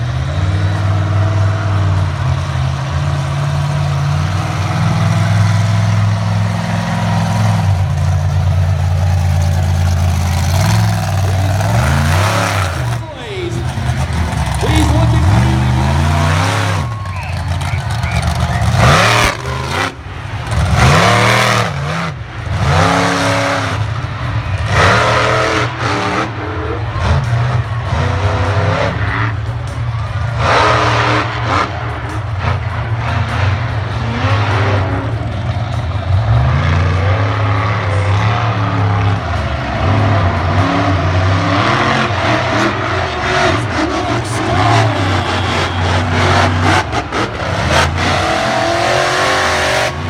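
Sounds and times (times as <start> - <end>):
monster truck engines revving: 0.0 - 50.0.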